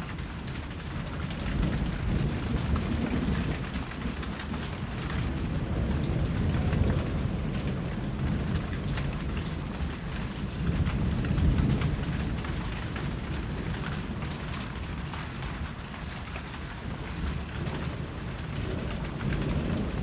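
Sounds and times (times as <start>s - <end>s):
rain pattering: 0.0s - 20.0s
thunder rumbling: 0.0s - 20.0s.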